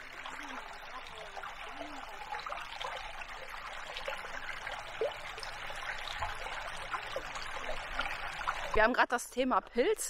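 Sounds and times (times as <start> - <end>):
water splashes and gurgles: 0.0 - 8.9
water flowing and trickling: 0.0 - 9.5.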